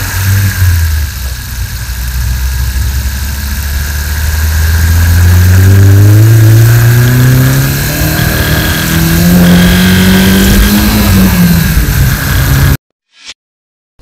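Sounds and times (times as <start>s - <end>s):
car engine accelerating under load: 0.0s - 12.8s.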